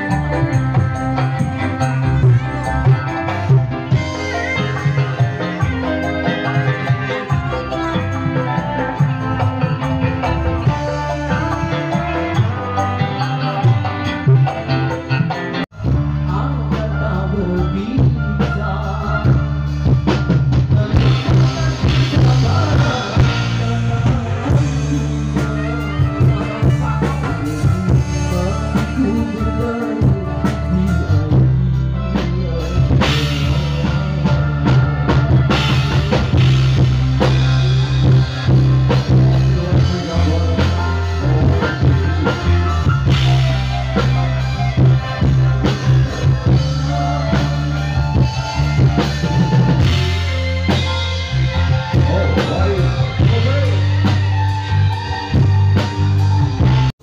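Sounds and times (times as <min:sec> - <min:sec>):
man singing: 0:00.0 - 0:50.8, 0:51.4 - 0:55.8
live band through pa system: 0:00.0 - 0:57.0.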